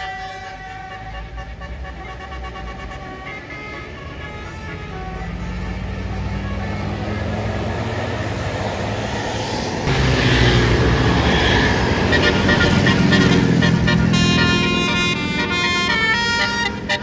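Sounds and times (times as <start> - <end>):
bus horn toots: 0.0 - 8.0, 9.9 - 17.0
bus engine running: 0.0 - 17.0.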